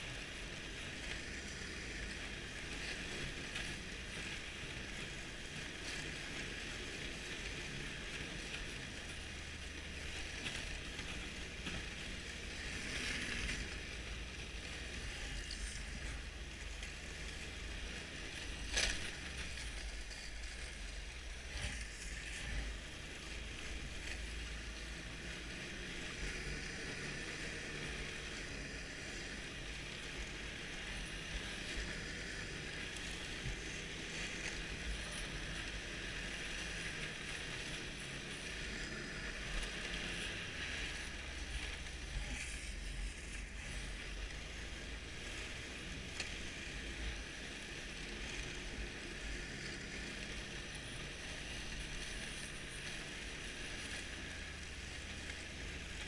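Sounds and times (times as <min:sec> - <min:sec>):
snowmobile engine and track drone: 0:00.0 - 0:56.0.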